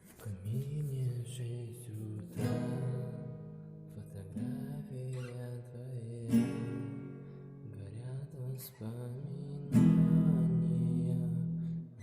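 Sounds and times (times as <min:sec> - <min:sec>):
acoustic guitar strumming: 0:00.2 - 0:12.0.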